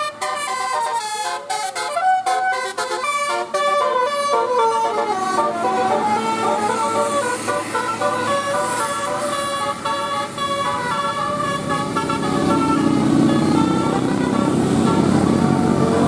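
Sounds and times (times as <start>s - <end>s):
musical air horn melody: 0.0s - 16.0s.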